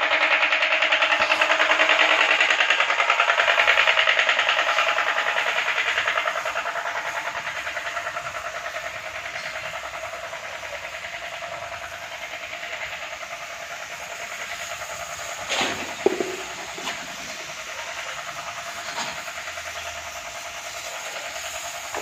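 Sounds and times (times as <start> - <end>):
pressure washer pump pulsing: 0.0 - 22.0
water jet hissing: 0.0 - 22.0.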